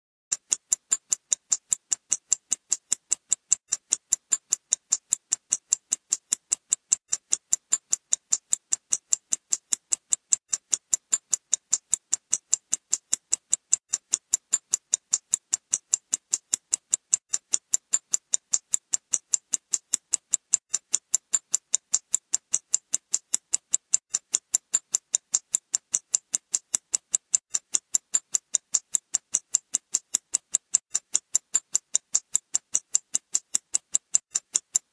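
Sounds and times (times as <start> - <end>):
clock ticking: 0.3 - 34.9.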